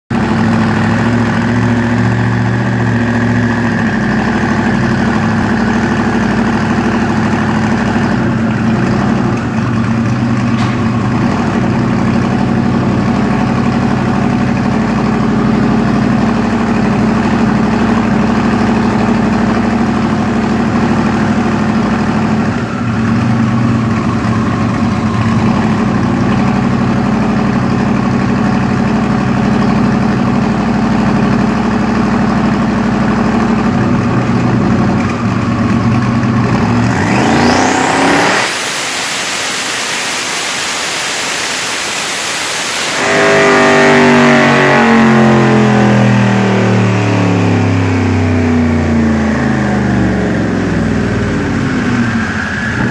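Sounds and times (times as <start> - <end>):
car engine idling: 0.1 - 52.9.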